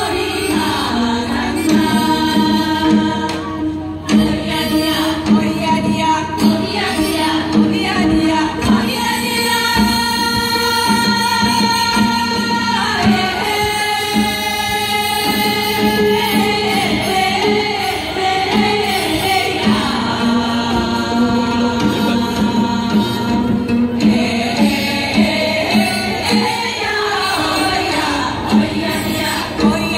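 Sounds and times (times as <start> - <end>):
choir singing long notes: 0.0 - 29.9
drums accompanying: 0.0 - 29.9.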